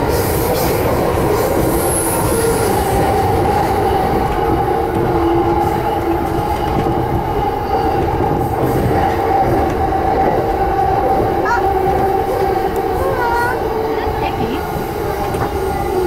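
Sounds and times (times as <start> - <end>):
train rolling rumble: 0.0 - 16.0
train whining tone: 0.0 - 16.0.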